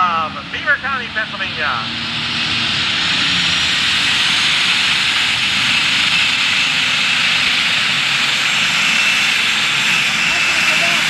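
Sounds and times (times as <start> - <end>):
diesel tractor engine at full load: 0.0 - 11.0
high turbo whine: 0.0 - 11.0.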